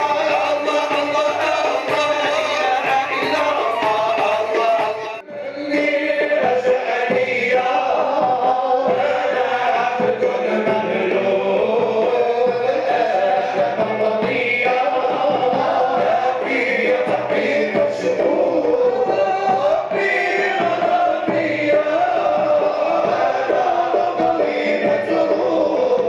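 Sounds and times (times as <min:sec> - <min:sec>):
male choir chanting: 0:00.0 - 0:26.0.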